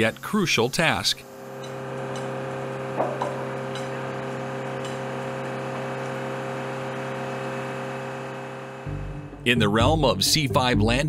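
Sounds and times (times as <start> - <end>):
machine hum with hiss: 0.0 - 9.3.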